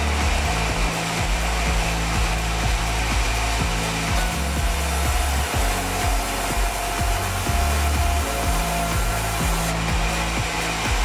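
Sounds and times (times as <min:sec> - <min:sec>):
band saw droning and whining: 0:00.0 - 0:11.0.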